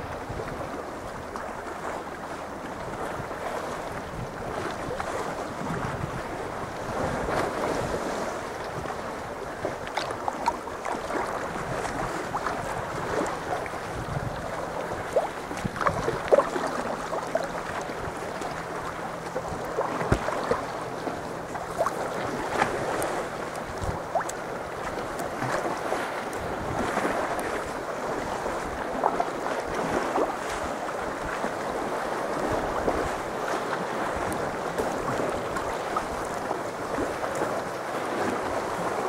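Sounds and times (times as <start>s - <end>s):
water lapping around kayak: 0.0s - 39.0s.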